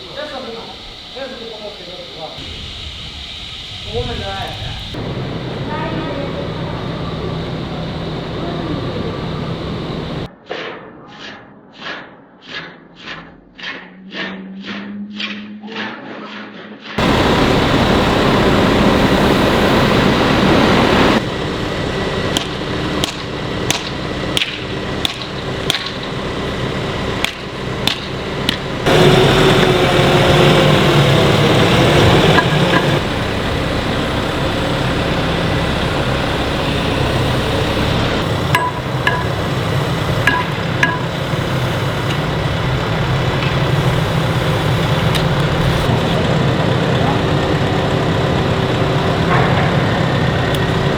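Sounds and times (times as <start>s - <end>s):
diesel engine running: 0.0s - 10.3s, 17.0s - 50.9s.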